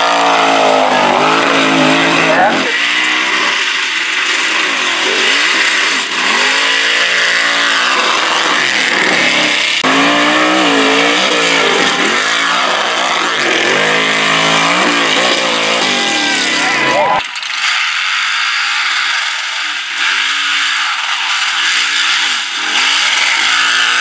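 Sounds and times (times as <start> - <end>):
truck engines revving: 0.0 - 24.0.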